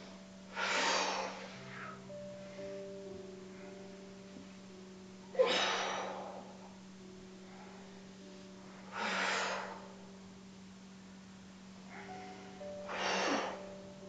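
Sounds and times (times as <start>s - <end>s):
woman breathing forcefully: 0.0s - 10.3s, 11.7s - 14.0s.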